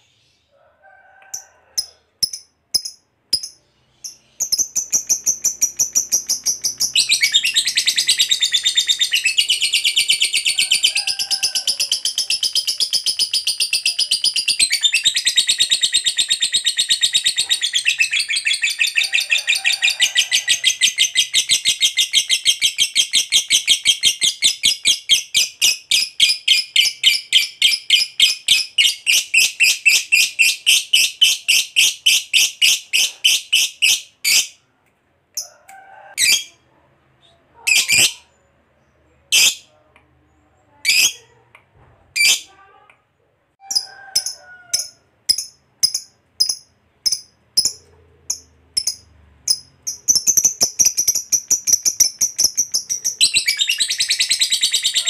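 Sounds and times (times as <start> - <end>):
lovebird chirping chatter: 1.8 - 34.6, 36.2 - 41.5, 43.6 - 55.0.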